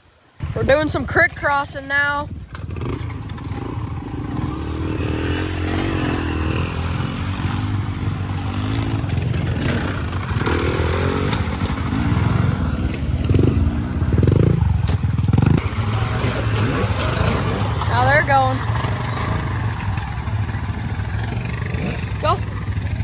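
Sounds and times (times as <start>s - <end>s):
off-road vehicle engines revving: 0.4s - 23.0s.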